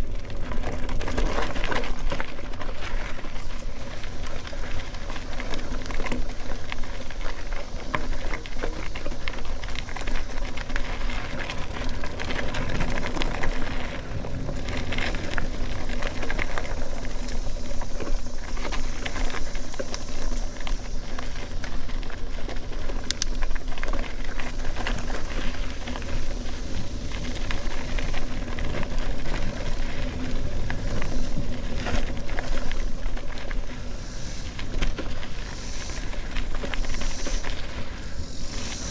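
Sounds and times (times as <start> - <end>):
bike rattling and clicking: 0.0 - 38.9
bike tyres rumbling on dirt: 0.0 - 38.9.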